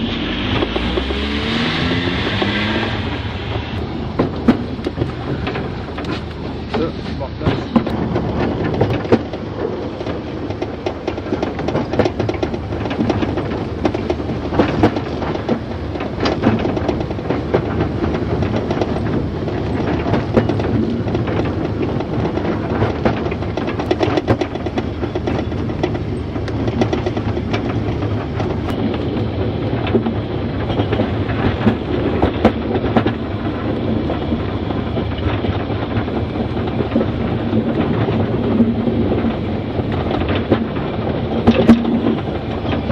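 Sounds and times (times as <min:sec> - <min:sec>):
steam train rumble: 0:00.0 - 0:42.9
wheels clattering over rails: 0:00.0 - 0:42.9.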